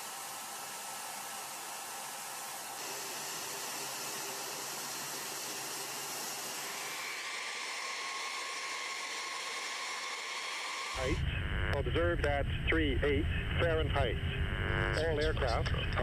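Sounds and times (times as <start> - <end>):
steady whine: 0.0 - 16.0.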